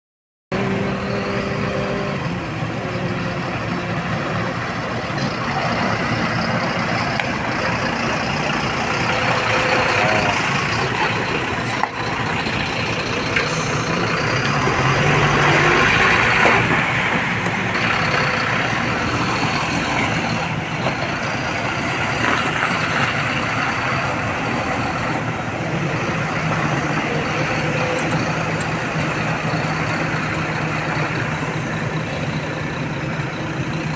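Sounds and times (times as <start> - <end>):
diesel engines under load: 0.5 - 33.9.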